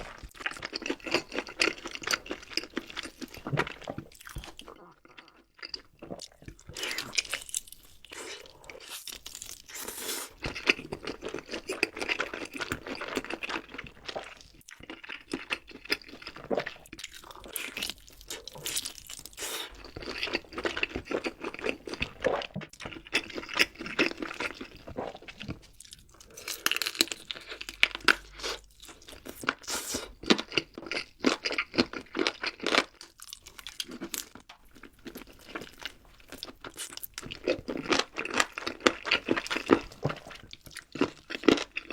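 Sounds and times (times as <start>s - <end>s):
crunching and chewing food: 0.0s - 41.9s.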